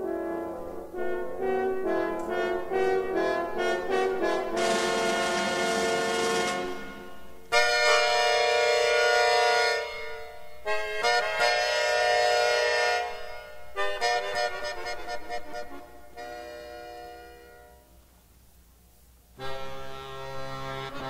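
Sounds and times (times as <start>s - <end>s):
accordion sustained chords: 0.0s - 18.0s, 19.3s - 21.0s.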